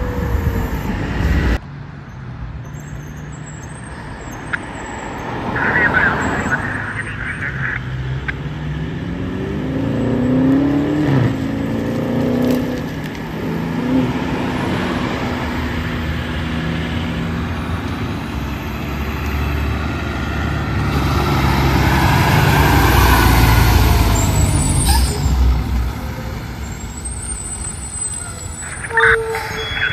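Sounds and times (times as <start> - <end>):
fire truck diesel engine accelerating: 3.4 - 29.9.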